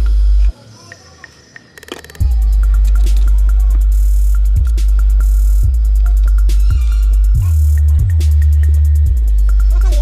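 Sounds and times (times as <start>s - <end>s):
music with heavy bass: 0.0s - 0.5s, 2.2s - 10.0s
ticking percussion: 0.0s - 10.0s.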